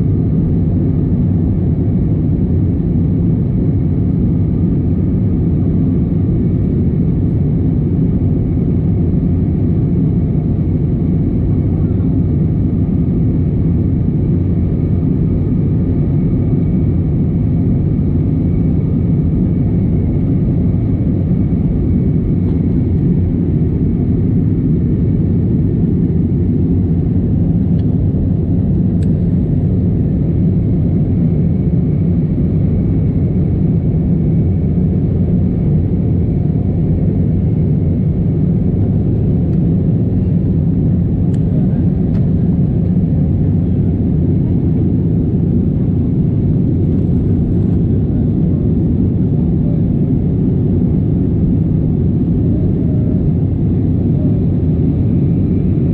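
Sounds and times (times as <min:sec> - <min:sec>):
jet engines and rushing air rumble: 0:00.0 - 0:55.9.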